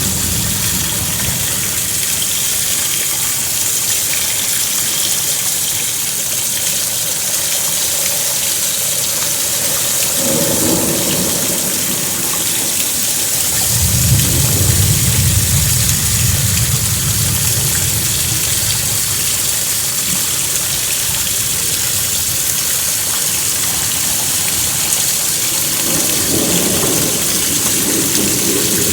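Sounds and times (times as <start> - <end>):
rolling thunder: 0.0 - 4.2, 9.4 - 28.9
steady rain hissing: 0.0 - 28.9.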